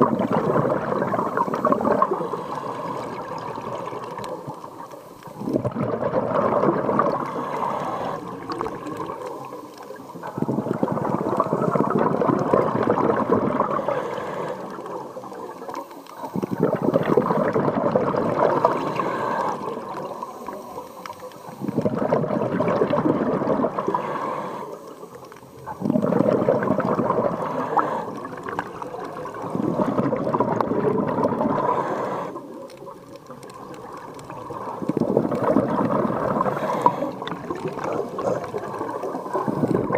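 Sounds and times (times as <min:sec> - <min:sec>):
diver inhaling underwater: 0:00.0 - 0:33.4, 0:34.2 - 0:39.9
regulator bubbles on exhale: 0:00.0 - 0:39.9.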